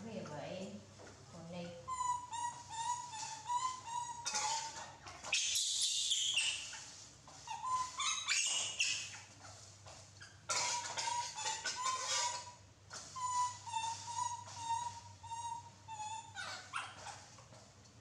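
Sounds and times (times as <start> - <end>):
young macaques squeaky calls: 1.7 - 9.3, 10.2 - 17.3.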